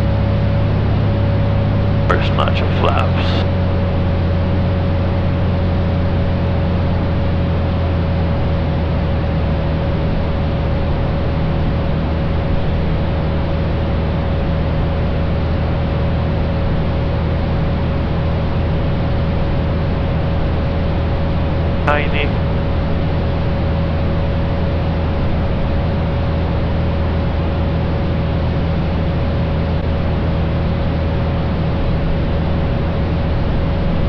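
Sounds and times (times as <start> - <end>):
small plane engine and propeller drone: 0.0 - 34.0.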